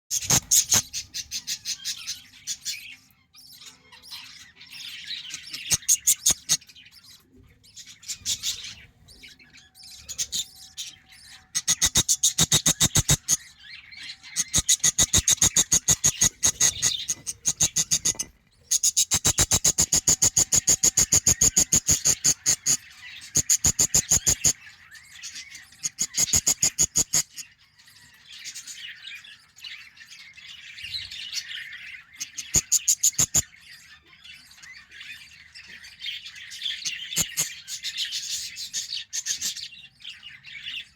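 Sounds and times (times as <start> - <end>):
budgerigar chicks cheeping: 0.1 - 40.9
soft chirping: 0.1 - 40.9.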